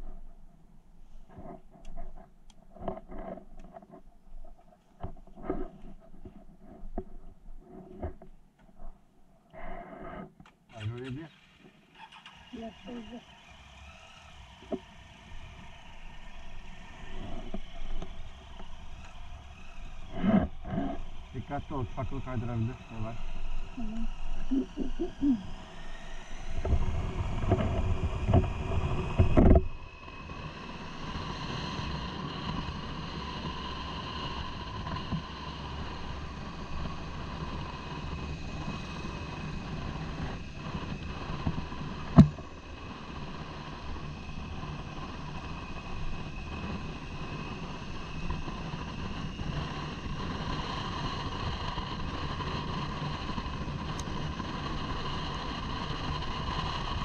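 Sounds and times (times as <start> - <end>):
motorcycle engine running: 10.8 - 57.0.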